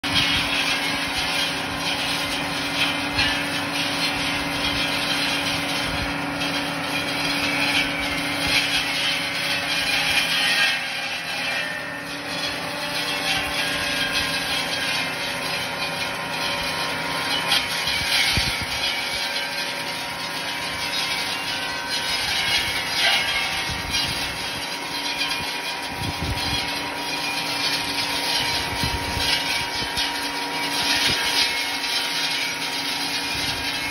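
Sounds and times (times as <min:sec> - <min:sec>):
hedge trimmer cutting branches: 0:00.0 - 0:33.9.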